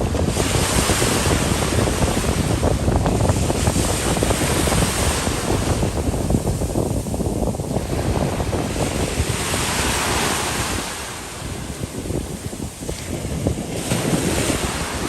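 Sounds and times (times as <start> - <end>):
sea surf rushing: 0.0 - 15.0
wind buffeting microphone: 0.0 - 15.0.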